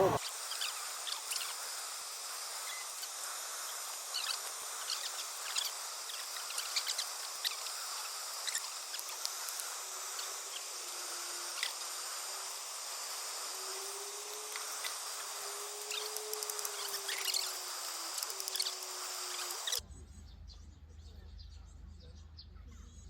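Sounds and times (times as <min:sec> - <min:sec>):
steady hiss: 0:00.0 - 0:19.8.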